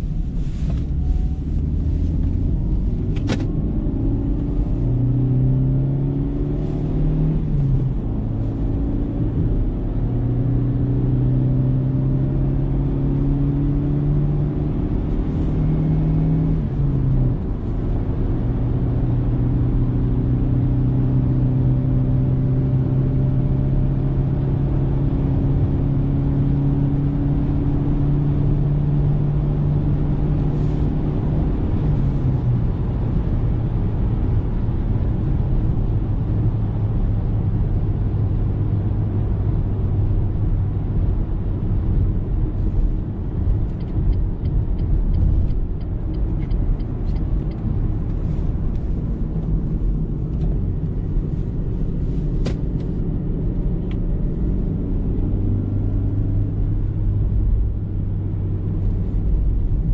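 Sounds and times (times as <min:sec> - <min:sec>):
car engine accelerating: 0:00.0 - 0:59.9
road rumble: 0:00.0 - 0:59.9.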